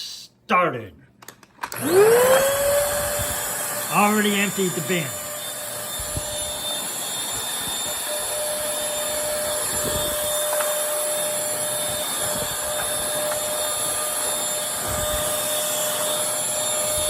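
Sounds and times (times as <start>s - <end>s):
stick vacuum running: 1.2s - 17.0s.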